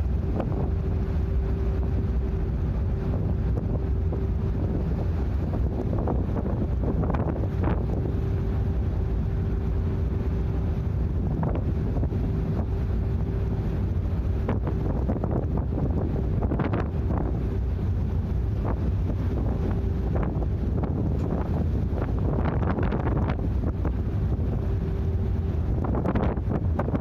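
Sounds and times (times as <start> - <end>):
faint steady hum: 0.0 - 27.0
low rumble of ship: 0.0 - 27.0
wind buffeting microphone: 0.0 - 27.0.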